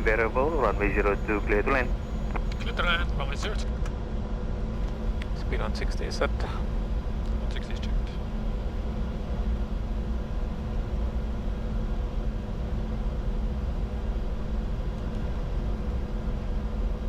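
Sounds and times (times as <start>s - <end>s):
aircraft cockpit airflow and engine: 0.0s - 17.0s
faint steady hums: 0.0s - 17.0s.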